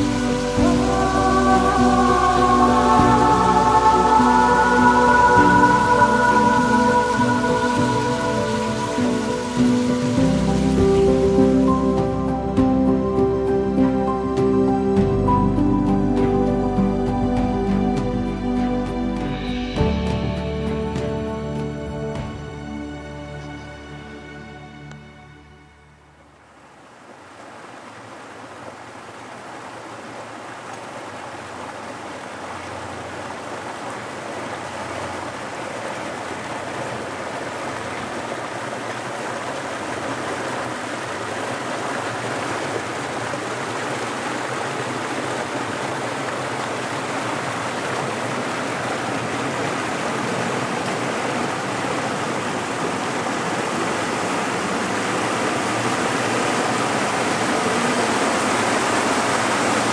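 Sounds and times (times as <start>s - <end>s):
water rushing through lock gates: 0.0s - 24.0s, 26.1s - 59.9s.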